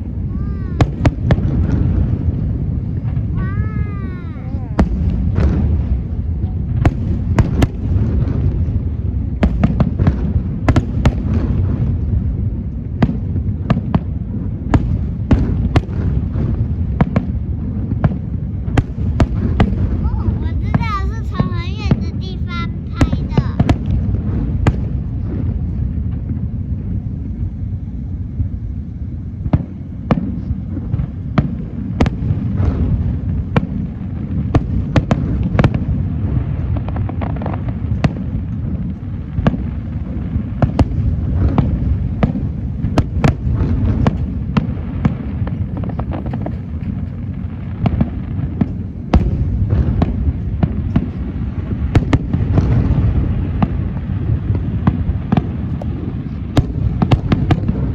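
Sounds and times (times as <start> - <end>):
fireworks rumbling and banging: 0.0 - 57.9.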